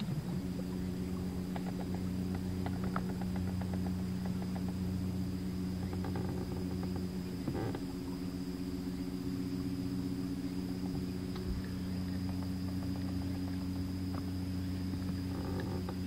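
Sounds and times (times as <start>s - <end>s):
electric trolling motor humming: 0.0s - 16.0s.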